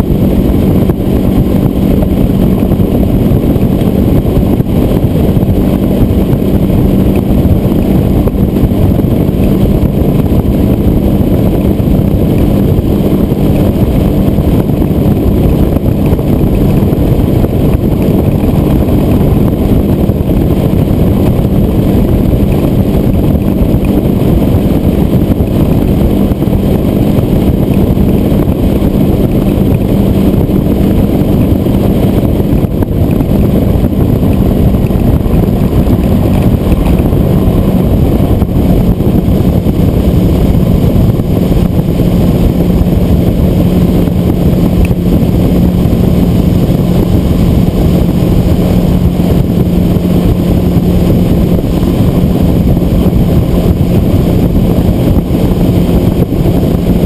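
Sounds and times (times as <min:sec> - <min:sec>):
outboard engine running: 0:00.0 - 0:57.0
rush of wind and water: 0:00.0 - 0:57.0.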